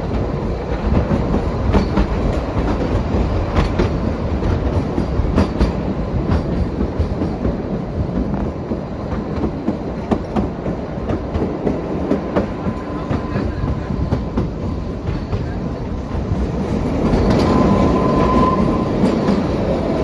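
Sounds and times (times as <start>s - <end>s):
train rumbling along track: 0.0s - 20.0s.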